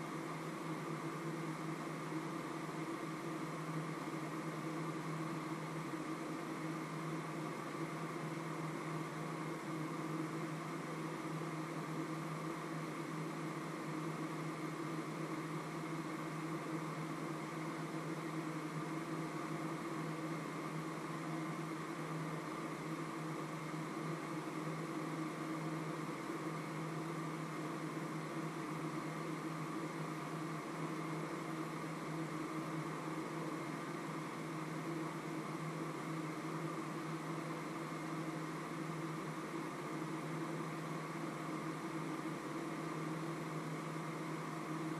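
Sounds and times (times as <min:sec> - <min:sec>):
steady mechanical hum: 0:00.0 - 0:44.9.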